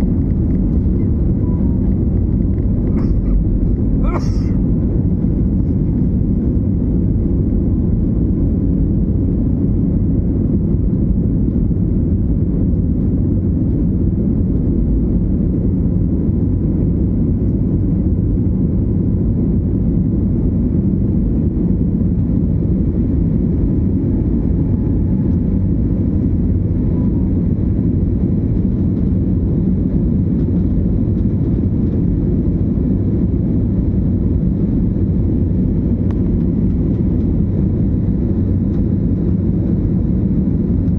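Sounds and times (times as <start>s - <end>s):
faint engine whine: 0.0s - 40.9s.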